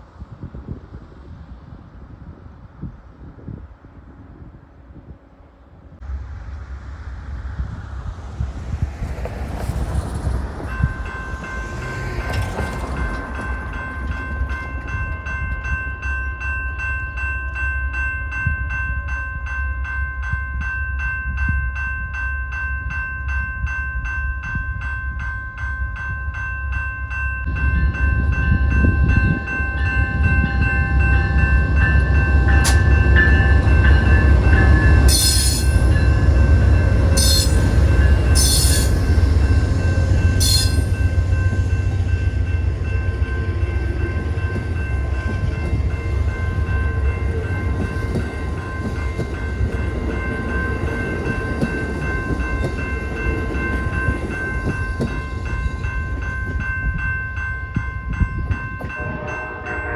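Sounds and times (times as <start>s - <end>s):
train rumble: 0.0s - 59.9s
crossing warning bell dinging: 9.5s - 59.9s.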